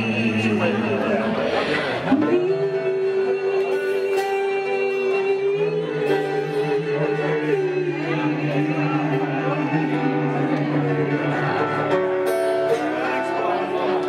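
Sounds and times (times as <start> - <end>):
acoustic guitar duo: 0.0 - 14.0.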